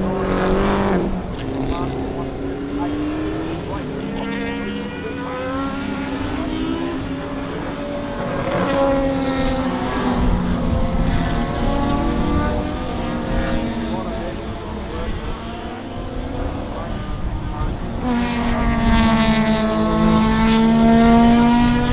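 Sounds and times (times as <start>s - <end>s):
race car engines accelerating: 0.0s - 21.9s.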